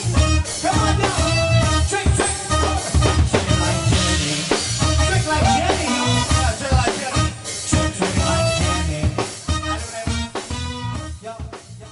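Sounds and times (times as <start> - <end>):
heavy bass: 0.0 - 11.9
steady drum beat: 0.0 - 11.9.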